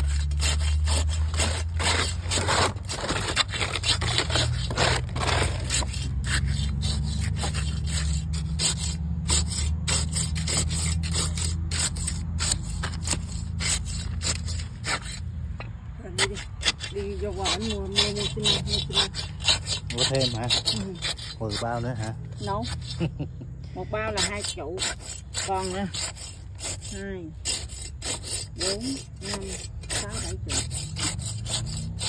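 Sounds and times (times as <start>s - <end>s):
trowel scraping cement: 0.0s - 15.4s, 16.0s - 32.0s.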